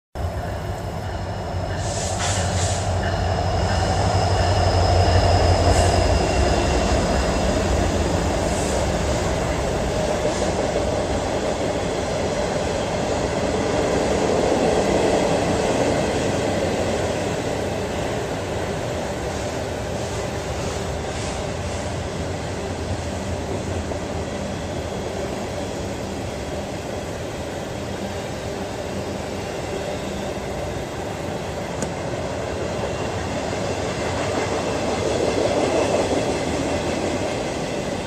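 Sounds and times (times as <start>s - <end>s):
train wheels rumbling on rails: 0.2s - 38.0s.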